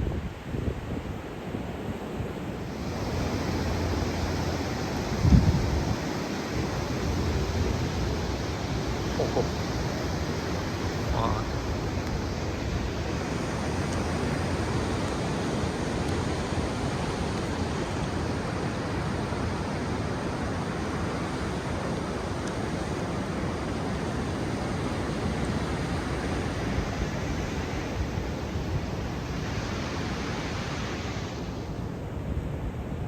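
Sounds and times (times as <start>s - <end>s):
ocean surf washing on beach: 0.0s - 33.0s.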